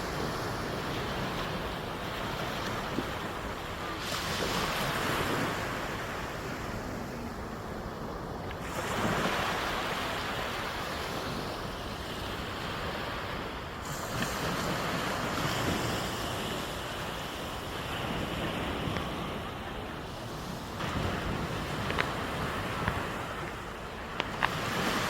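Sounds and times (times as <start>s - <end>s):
waves washing onto sand beach: 0.0s - 25.0s.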